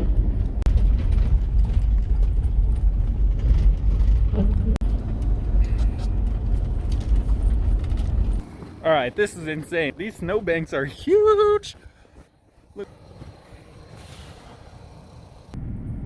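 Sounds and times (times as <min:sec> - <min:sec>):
van engine and road rumble: 0:00.0 - 0:16.0.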